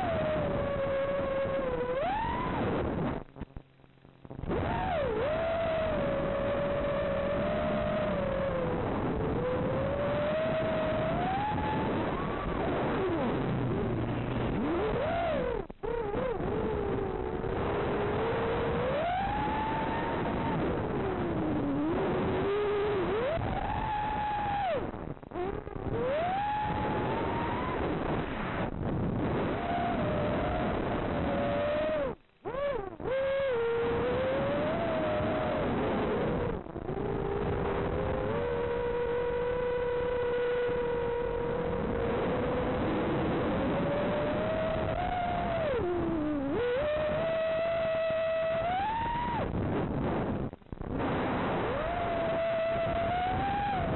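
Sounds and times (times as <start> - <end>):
drone propellers whining: 4.6 - 24.9, 25.5 - 28.7, 29.3 - 49.5, 51.1 - 53.9.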